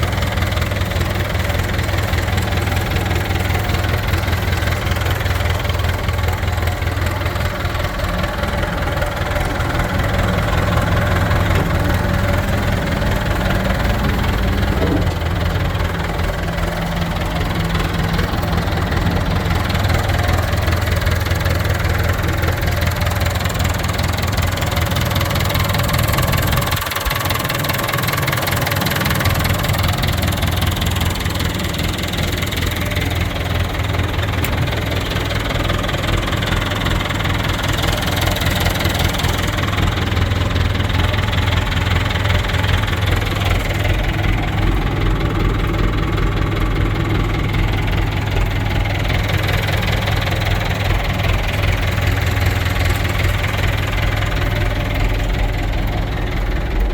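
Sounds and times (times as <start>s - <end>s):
tractor diesel engine rumbling: 0.0s - 56.9s.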